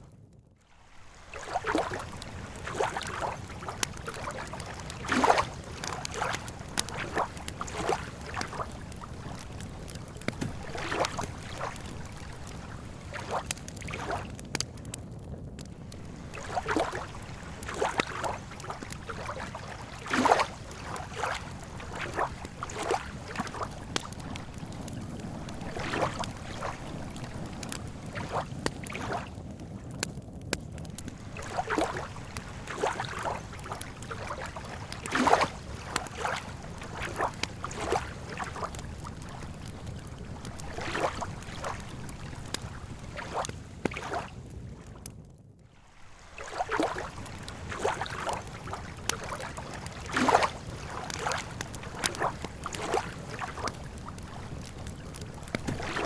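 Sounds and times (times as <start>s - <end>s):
campfire crackling: 0.1s - 56.0s
lake water lapping: 0.6s - 14.6s, 15.7s - 29.4s, 30.9s - 44.9s, 45.7s - 56.0s.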